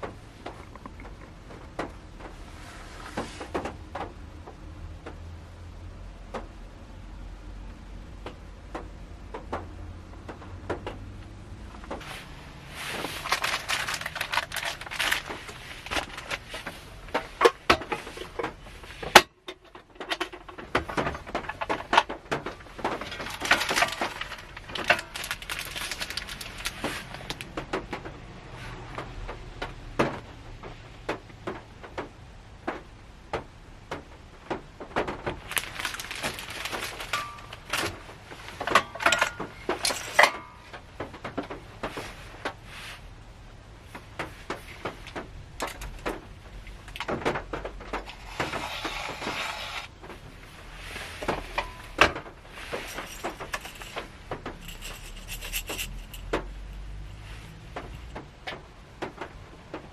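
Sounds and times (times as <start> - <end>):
raindrops on car roof: 0.0 - 5.3, 8.2 - 11.0, 11.7 - 55.4, 56.2 - 59.9.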